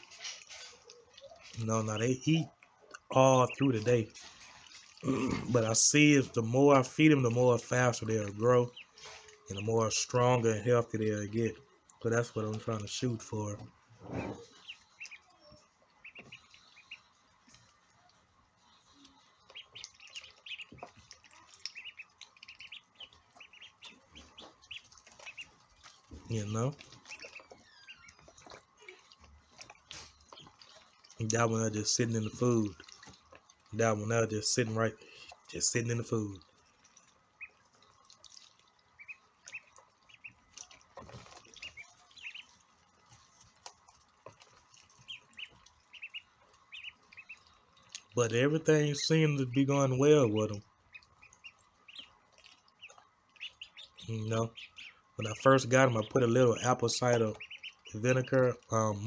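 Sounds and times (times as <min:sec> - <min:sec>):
ducklings peeping: 0:00.0 - 0:59.0.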